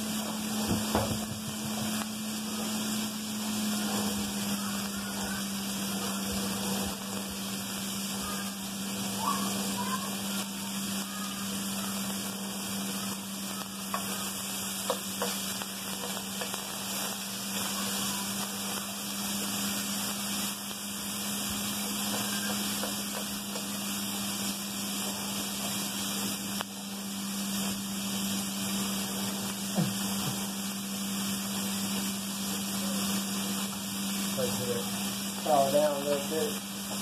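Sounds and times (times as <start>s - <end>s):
bacon sizzling in a frying pan: 0.0s - 37.0s.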